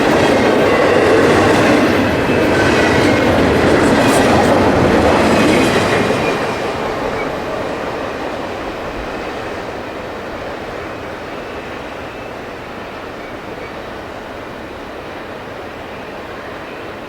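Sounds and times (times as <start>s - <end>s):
freight train rolling by: 0.0s - 17.0s.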